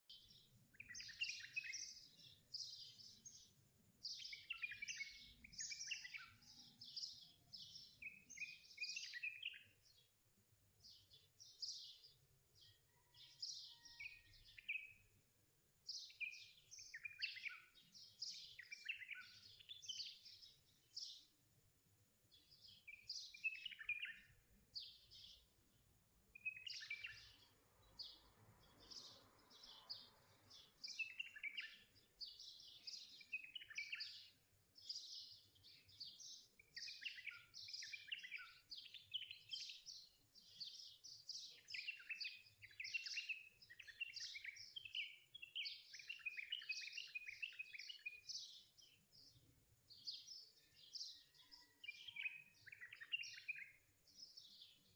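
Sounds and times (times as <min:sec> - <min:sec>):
small birds chirping and singing: 0:00.0 - 0:54.9.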